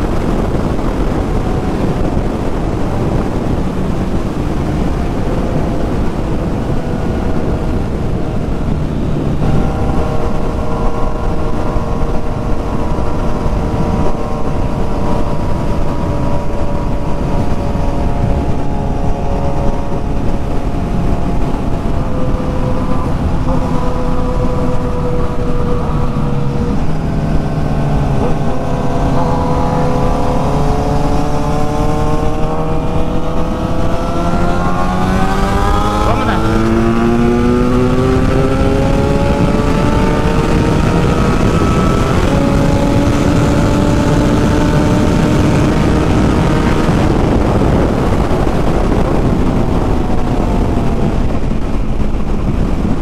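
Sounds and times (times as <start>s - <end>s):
motorcycle engine accelerating: 0.0s - 53.0s
wind noise: 0.0s - 53.0s.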